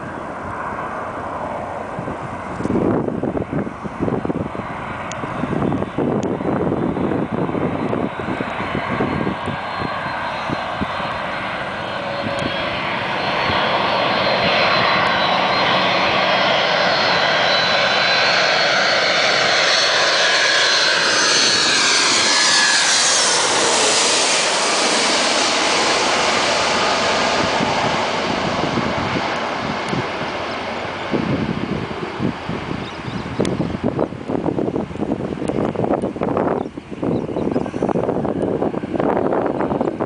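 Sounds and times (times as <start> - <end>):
jet airliner passing overhead: 0.0 - 40.0.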